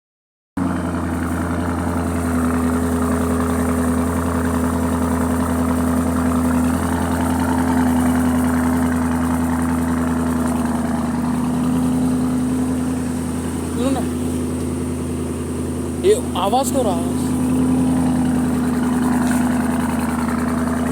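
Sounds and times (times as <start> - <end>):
car engine idling: 0.6 - 20.9.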